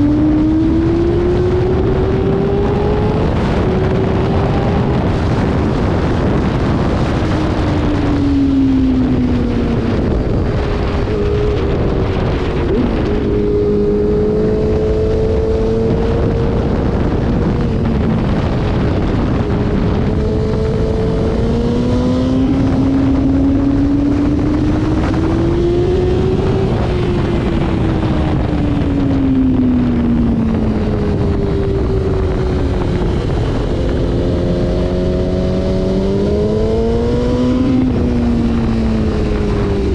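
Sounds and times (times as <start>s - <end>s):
motorcycle engine revving: 0.0s - 39.9s
wind rushing on microphone: 0.0s - 39.9s.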